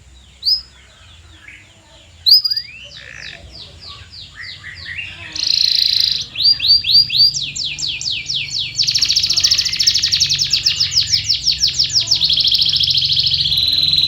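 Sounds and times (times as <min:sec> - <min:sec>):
canary singing trills: 0:00.0 - 0:14.0.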